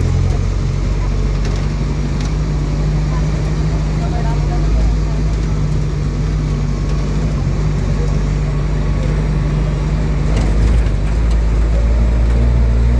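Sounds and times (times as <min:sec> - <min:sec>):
road traffic noise: 0:00.0 - 0:12.9
vehicle engine droning: 0:00.0 - 0:12.9.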